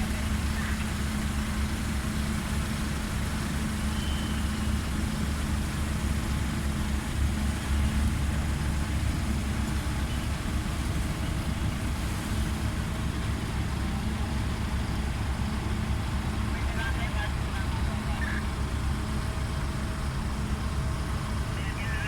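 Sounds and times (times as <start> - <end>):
ship engine droning: 0.0 - 22.0.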